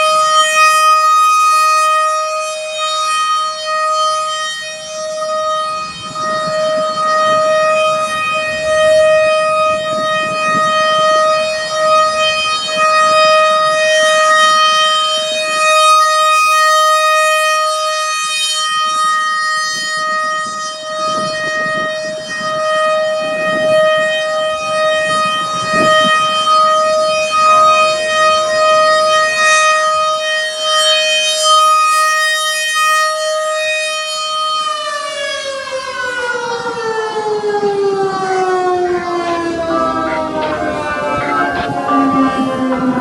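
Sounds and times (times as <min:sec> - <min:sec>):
warning siren alert tone: 0:00.0 - 0:43.0.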